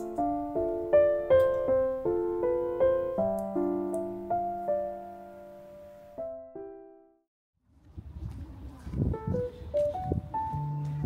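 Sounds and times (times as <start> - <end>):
soft piano music: 0.0 - 7.3, 9.1 - 11.0.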